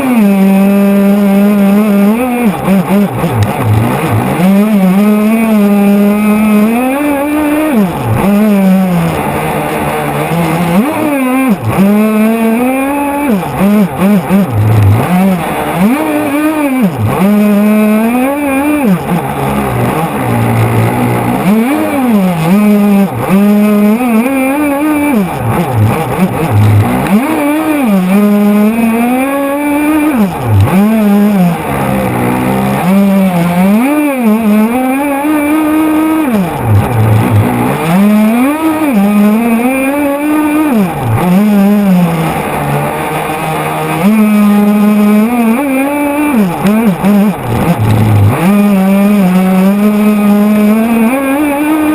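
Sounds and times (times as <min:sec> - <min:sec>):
model boat motor revving: 0:00.0 - 0:51.9.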